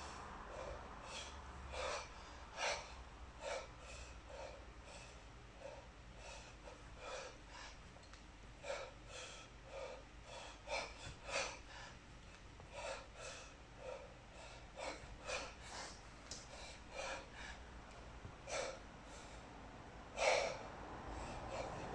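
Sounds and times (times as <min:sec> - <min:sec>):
man breathing hard: 0:00.0 - 0:21.9.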